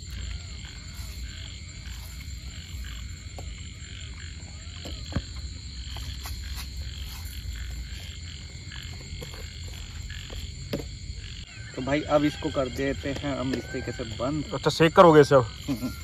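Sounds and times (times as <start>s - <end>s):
frogs croaking: 0.0s - 16.0s.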